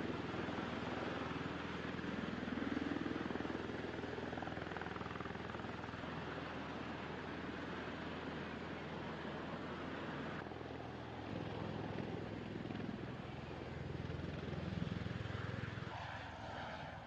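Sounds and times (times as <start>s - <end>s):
aircraft engine and rotor drone: 0.0s - 17.0s.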